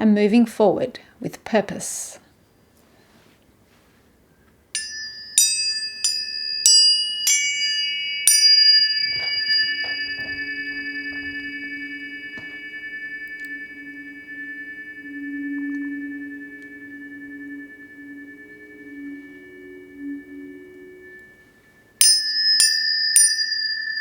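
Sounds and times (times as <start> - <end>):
low steady humming tones: 2.0 - 24.0
tuning forks ringing: 4.8 - 24.0.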